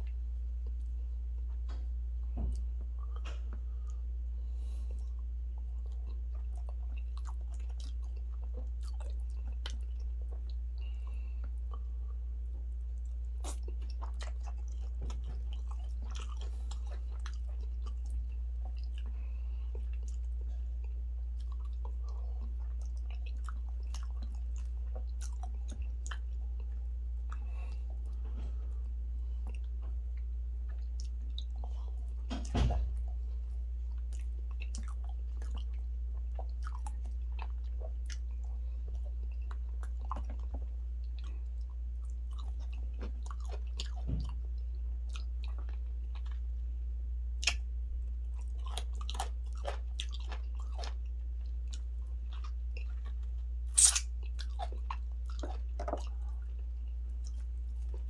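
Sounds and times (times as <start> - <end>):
low hum: 0.0 - 58.0
person chewing wet clicks: 5.0 - 32.6, 33.8 - 46.5, 47.4 - 58.0.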